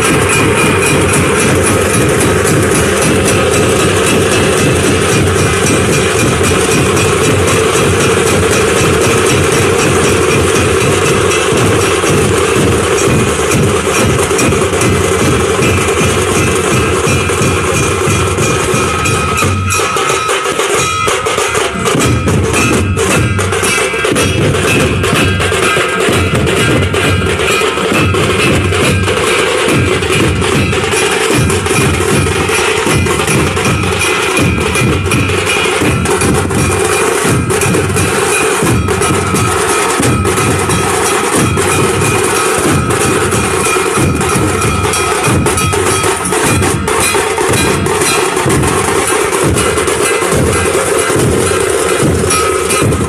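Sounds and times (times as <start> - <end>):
dhol drums beaten in a rhythm: 0.0 - 53.0
sharper percussion: 0.0 - 53.0.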